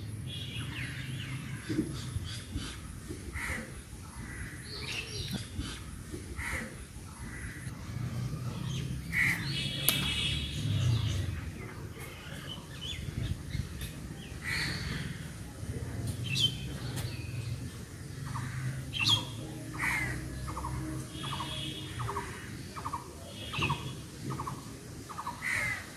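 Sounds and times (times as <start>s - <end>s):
birds calling: 0.0s - 25.9s.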